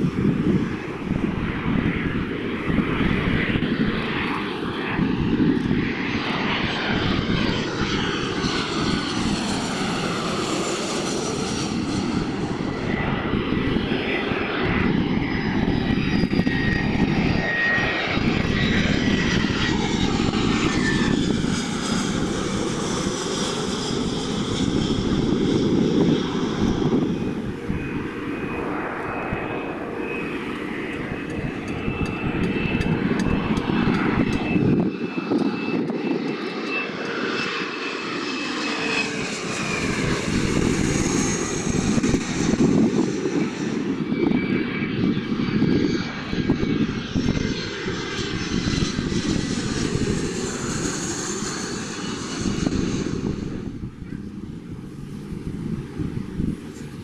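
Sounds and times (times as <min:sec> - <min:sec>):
airliner engines passing: 0:00.0 - 0:57.0.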